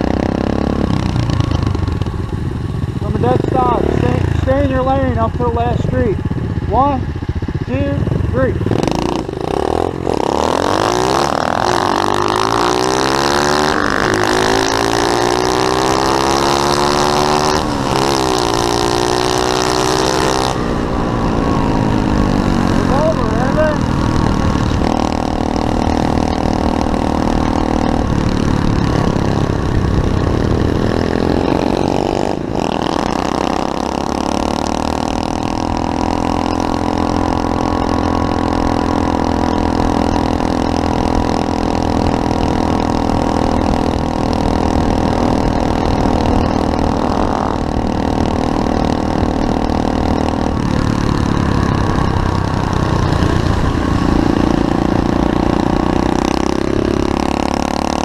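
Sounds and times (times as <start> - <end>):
motorbike engine running: 0.0 - 58.0.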